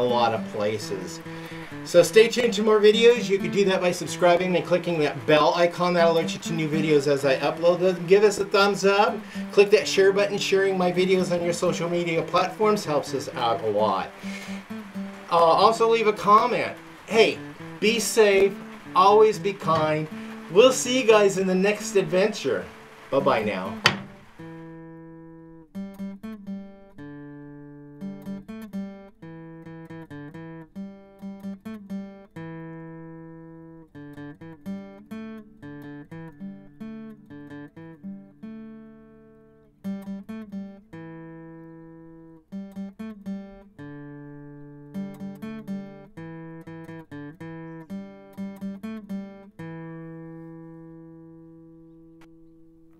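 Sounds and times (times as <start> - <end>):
fingerpicked acoustic guitar: 0.0 - 52.9.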